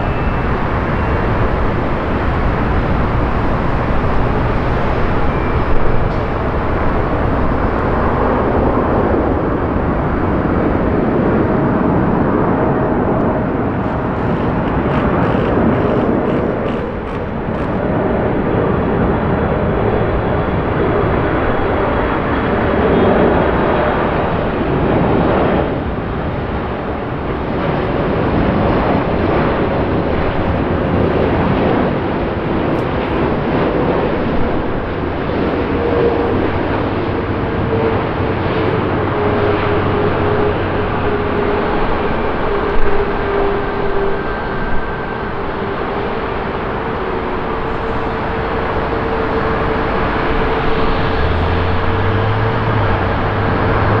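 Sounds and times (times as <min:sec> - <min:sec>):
jet engine noise with whine: 0:00.0 - 0:54.0.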